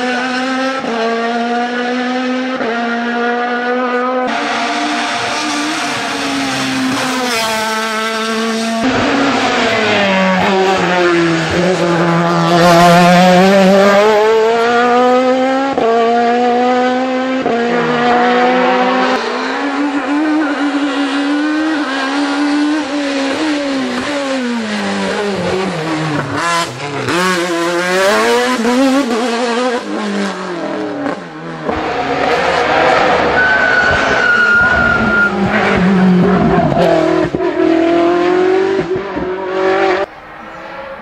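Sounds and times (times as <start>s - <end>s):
race car engines at full throttle: 0.0s - 41.0s.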